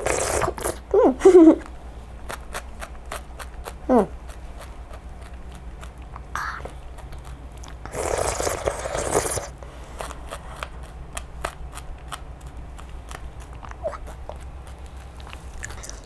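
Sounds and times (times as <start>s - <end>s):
crisp crunches of eating: 1.6s - 16.0s.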